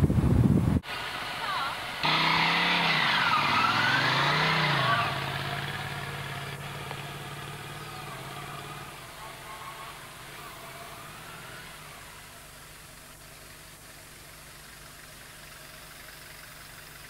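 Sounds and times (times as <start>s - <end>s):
motorcycle engine pulling away: 1.0s - 17.0s.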